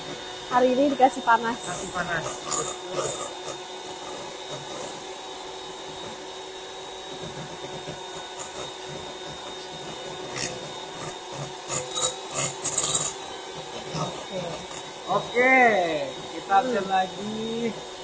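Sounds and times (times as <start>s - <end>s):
electric mixer running: 0.0s - 18.0s.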